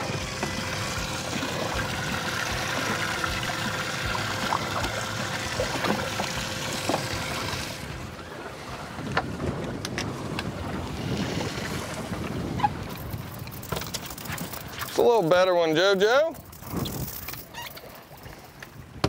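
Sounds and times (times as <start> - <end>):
wind on microphone: 0.0 - 14.8, 16.4 - 17.6
waves lapping at hull: 0.0 - 19.0.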